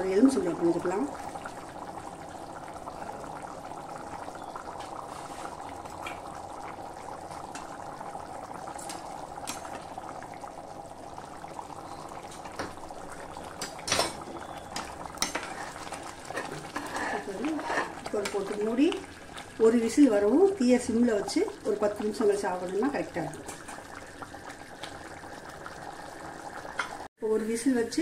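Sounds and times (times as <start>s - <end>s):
rice bubbling at a hard boil: 0.0s - 28.0s.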